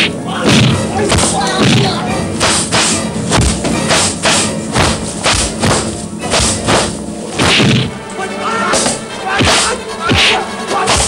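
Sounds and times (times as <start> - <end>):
percussive fight music: 0.0 - 11.0.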